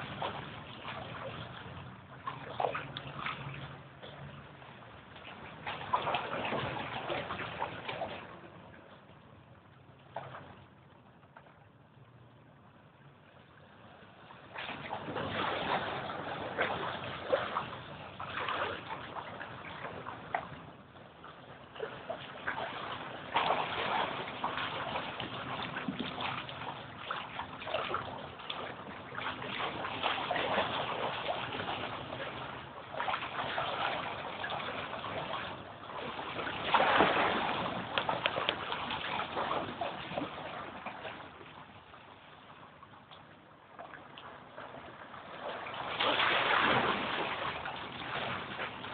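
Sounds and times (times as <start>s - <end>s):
water gurgling through pipes: 0.0s - 8.7s, 14.4s - 41.6s, 43.8s - 48.9s.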